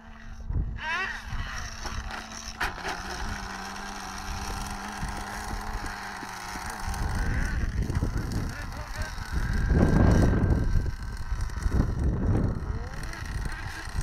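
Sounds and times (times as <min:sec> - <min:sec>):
small nitro engines buzzing: 0:00.0 - 0:14.0
wind rumbling on microphone: 0:00.0 - 0:14.0.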